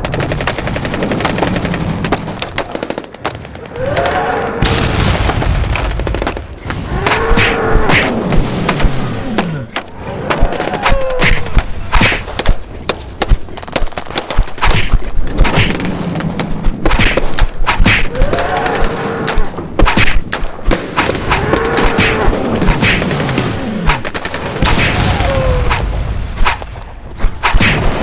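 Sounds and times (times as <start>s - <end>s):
gunfire-like shots and thuds: 0.0s - 18.3s, 19.4s - 28.0s.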